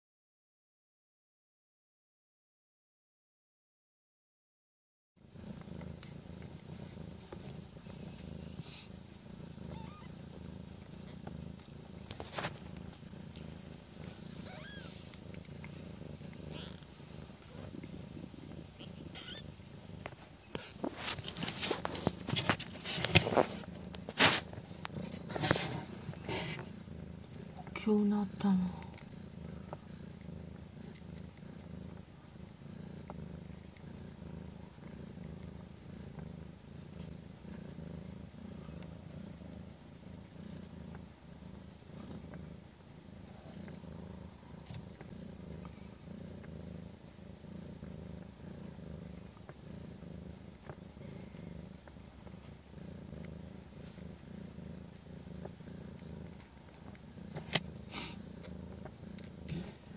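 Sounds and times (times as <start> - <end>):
cat purring: 5.2 - 59.9.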